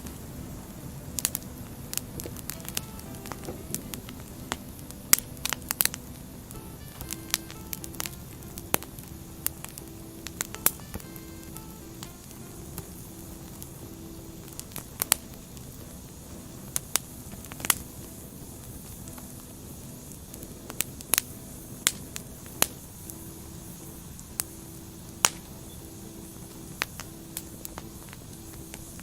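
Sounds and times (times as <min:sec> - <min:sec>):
firewood crackling and popping: 0:00.0 - 0:29.0
low hiss of flames: 0:00.0 - 0:29.0.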